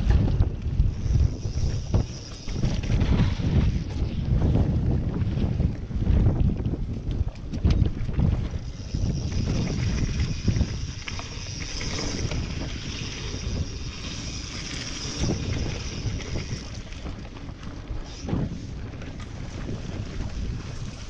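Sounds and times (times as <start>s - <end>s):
bike rumbling on dirt trail: 0.0s - 21.0s
wind buffeting microphone: 0.0s - 21.0s.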